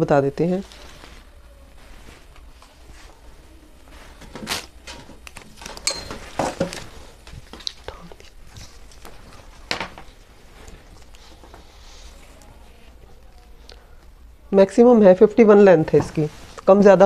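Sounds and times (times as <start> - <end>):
cloth rustling: 0.3 - 13.5, 15.7 - 17.0.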